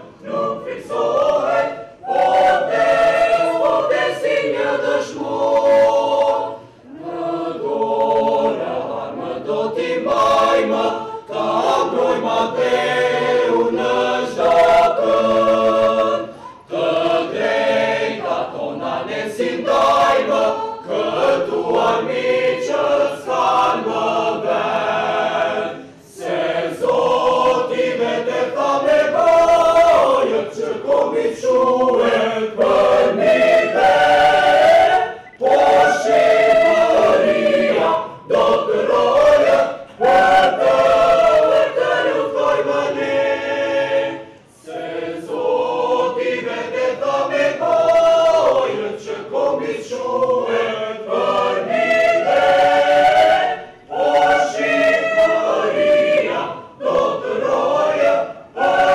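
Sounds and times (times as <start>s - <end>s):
choir singing: 0.0s - 58.9s.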